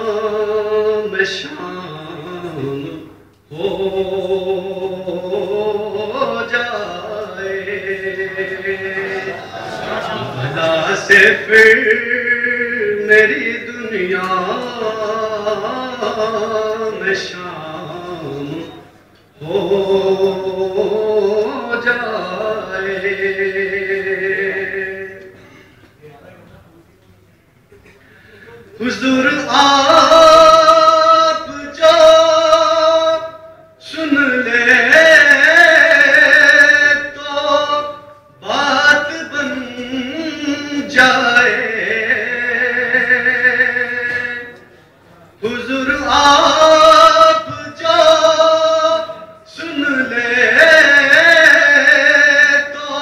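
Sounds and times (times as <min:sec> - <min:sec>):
man chanting into a microphone: 0:00.0 - 0:09.4, 0:10.0 - 0:26.3, 0:28.4 - 0:53.0.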